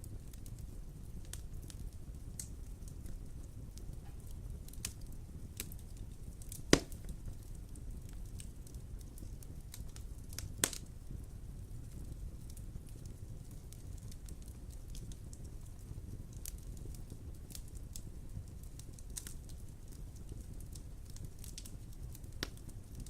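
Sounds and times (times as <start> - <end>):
sharp fire pops: 0.0 - 23.0
wood fire crackling: 0.0 - 23.0.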